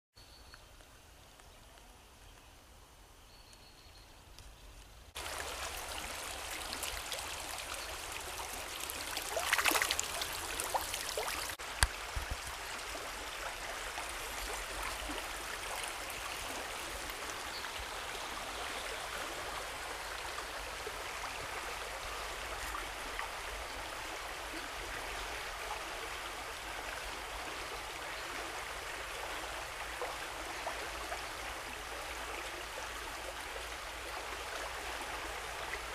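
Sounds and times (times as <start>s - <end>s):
stream running over stones: 4.3s - 35.9s.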